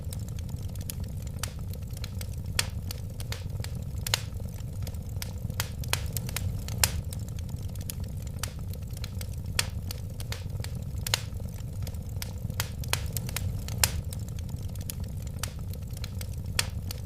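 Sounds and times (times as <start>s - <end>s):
fire popping and snapping: 0.0s - 17.0s
low rumble of flames: 0.0s - 17.0s.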